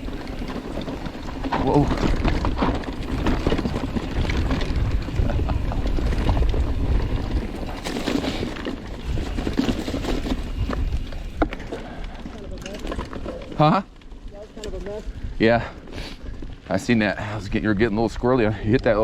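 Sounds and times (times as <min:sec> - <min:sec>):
bike rattles and knocks: 0:00.0 - 0:17.0
tyres on loose rock: 0:00.0 - 0:17.1
wind rumbling on microphone: 0:00.0 - 0:19.0.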